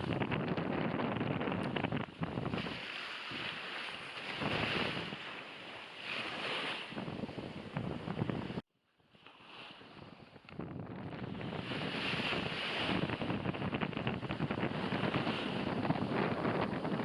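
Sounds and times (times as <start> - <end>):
wind buffeting microphone: 0.0 - 8.6, 9.7 - 17.0
sea waves washing on shore: 0.0 - 17.0.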